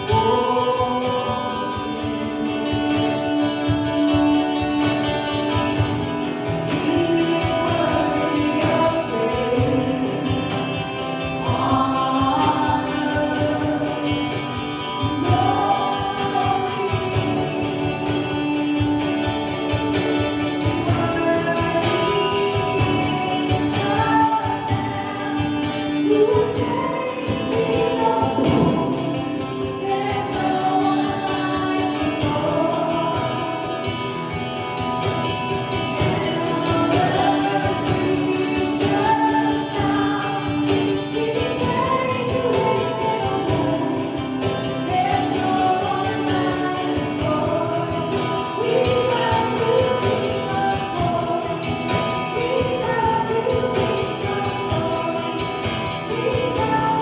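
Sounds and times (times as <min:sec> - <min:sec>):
gospel choir singing with band: 0:00.0 - 0:57.0.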